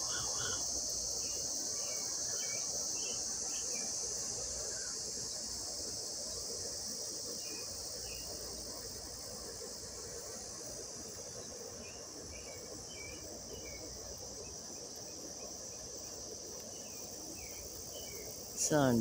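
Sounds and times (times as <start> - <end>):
crickets and cicadas buzzing: 0.0 - 19.0.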